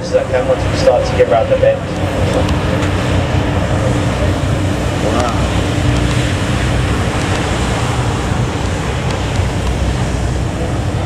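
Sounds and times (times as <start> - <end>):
churning boat wake: 0.0 - 11.0
low engine rumble: 0.0 - 11.0
water rushing: 0.0 - 11.0
wind: 0.0 - 11.0.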